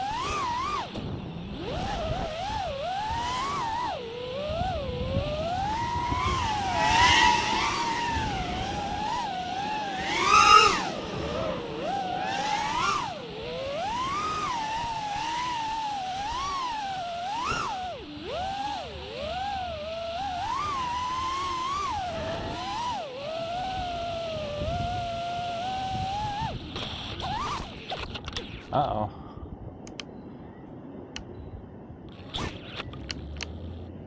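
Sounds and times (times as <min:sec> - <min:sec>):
quadcopter motors whining: 0:00.0 - 0:29.0, 0:32.1 - 0:34.0.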